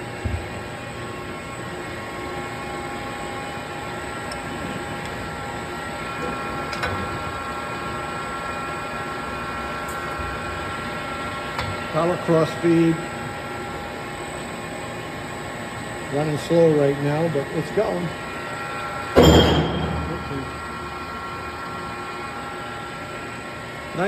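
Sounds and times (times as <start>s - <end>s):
lathe humming and whining: 0.0s - 19.3s, 20.0s - 24.0s.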